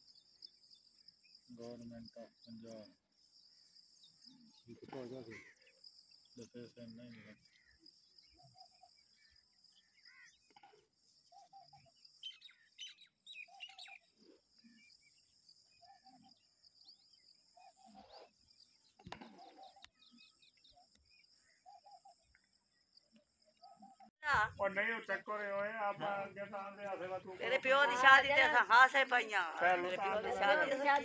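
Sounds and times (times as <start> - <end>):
birds chirping and calling: 0.0 - 31.0.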